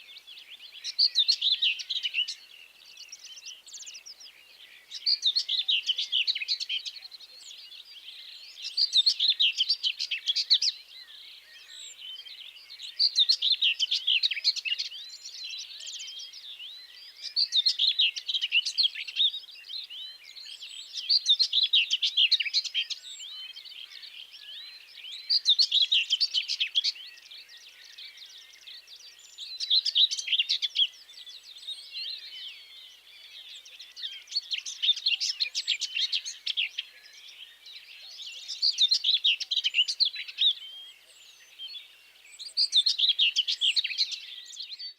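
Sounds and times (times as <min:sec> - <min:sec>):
faint bird chirps: 0:00.0 - 0:44.9
songbird singing: 0:00.0 - 0:44.9.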